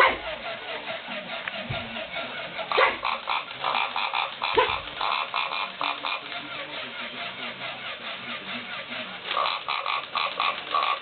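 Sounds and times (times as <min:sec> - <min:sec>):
toy pig grunting: 0:00.0 - 0:11.0.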